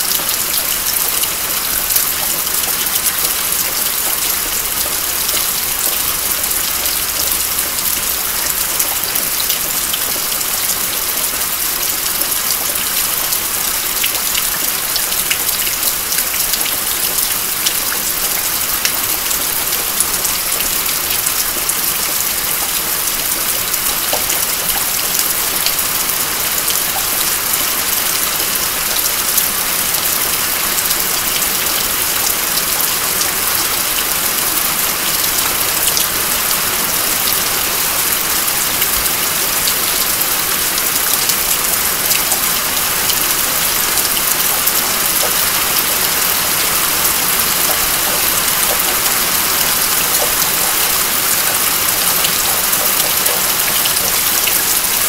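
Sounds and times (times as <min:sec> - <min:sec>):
raindrops striking close by: 0:00.0 - 0:55.0
steady rain falling: 0:00.0 - 0:55.0.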